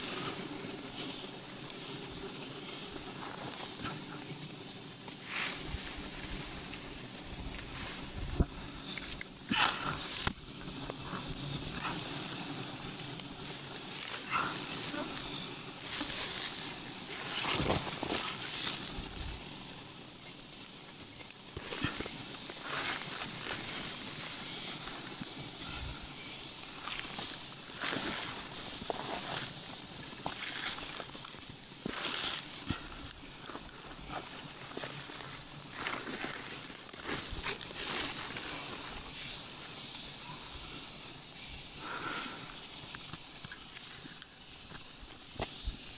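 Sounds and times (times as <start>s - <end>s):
leaves and twigs rustling: 0.0s - 45.9s.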